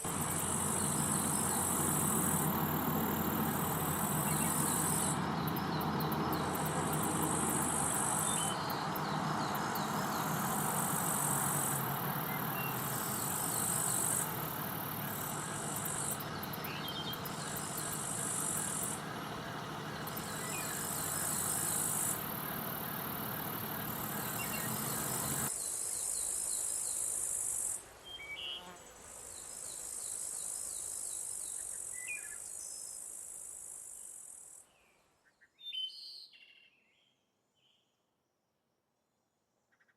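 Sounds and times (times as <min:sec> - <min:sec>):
insects buzzing: 0:00.0 - 0:32.0.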